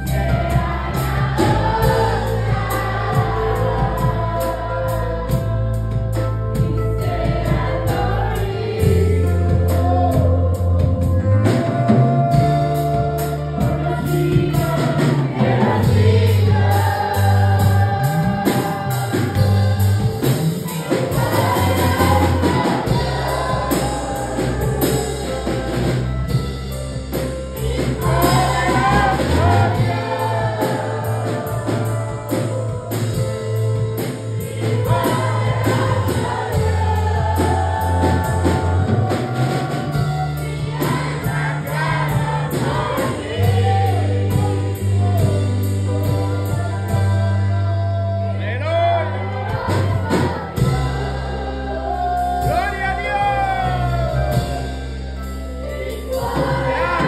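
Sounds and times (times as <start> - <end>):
girls singing into microphones: 0.0 - 26.5, 27.6 - 33.4, 34.0 - 45.6, 49.0 - 52.9, 55.7 - 57.0
backing music: 0.0 - 57.0
sustained bass line: 0.0 - 57.0.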